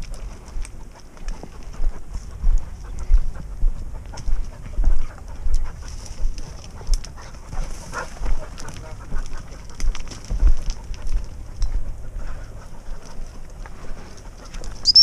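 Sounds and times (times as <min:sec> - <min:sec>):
footsteps on stony path: 0:00.0 - 0:15.0.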